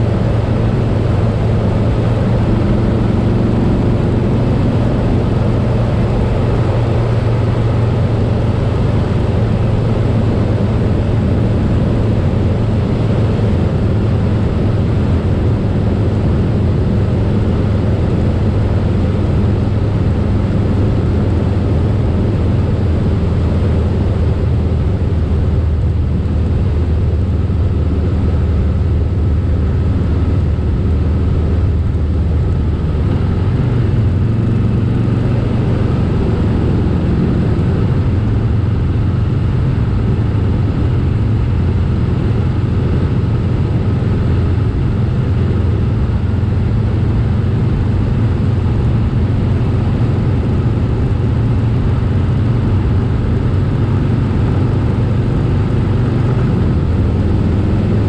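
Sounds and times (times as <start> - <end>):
motorcycle engine droning: 0.0 - 58.0
road noise: 0.0 - 58.0
wind rush: 0.0 - 58.0.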